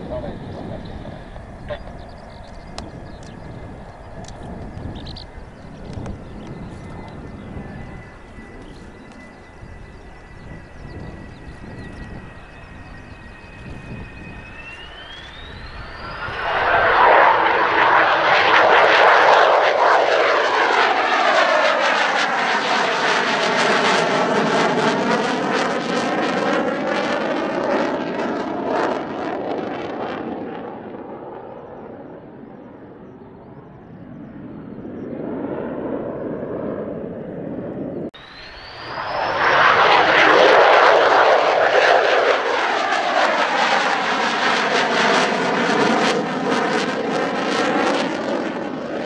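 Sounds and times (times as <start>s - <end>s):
jet engine whine: 0.0s - 49.0s
jet passing low: 0.0s - 49.0s.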